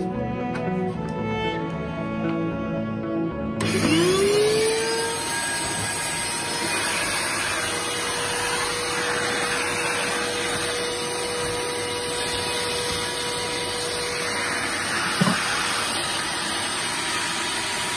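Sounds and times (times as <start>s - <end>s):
vacuum cleaner running: 0.0s - 17.9s.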